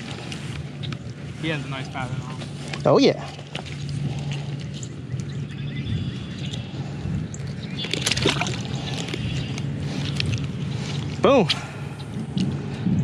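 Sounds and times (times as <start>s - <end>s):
water splashing and sloshing: 0.0s - 5.3s, 6.4s - 12.7s.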